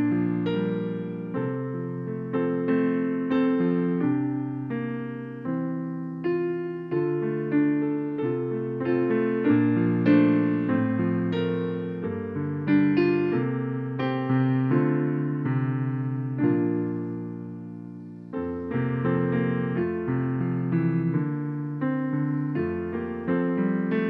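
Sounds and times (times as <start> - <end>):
piano playing slow chords: 0.0 - 24.0.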